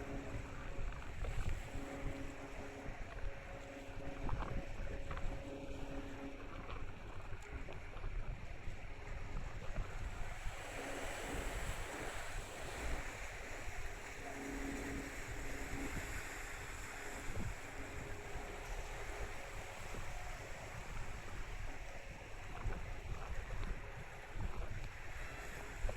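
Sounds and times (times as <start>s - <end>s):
hiss of wind and water: 0.0s - 25.9s
wind buffeting microphone: 0.0s - 25.9s.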